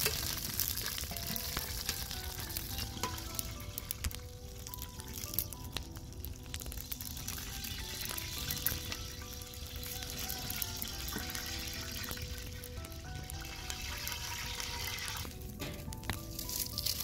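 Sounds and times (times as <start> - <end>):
background music of held notes: 0.0 - 17.0
oil sizzling in pan: 0.0 - 17.0.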